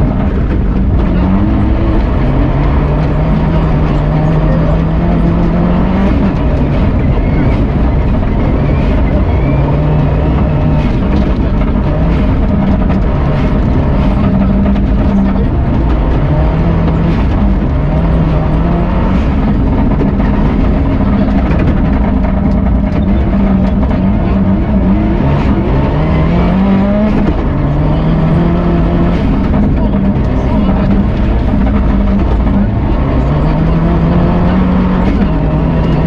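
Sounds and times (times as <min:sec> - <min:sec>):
dense low rumble: 0:00.0 - 0:36.0
rally car engine at high revs: 0:00.0 - 0:36.0.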